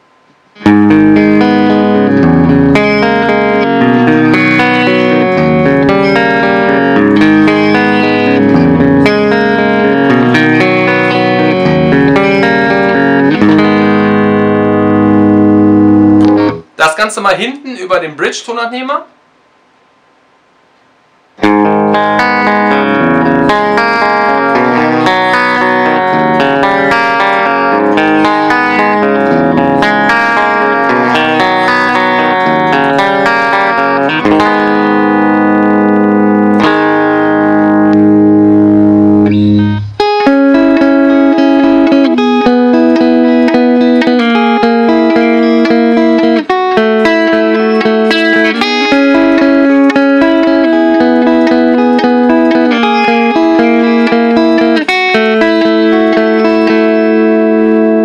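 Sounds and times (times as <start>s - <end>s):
clean electric guitar: 0.0s - 16.8s, 21.4s - 58.0s.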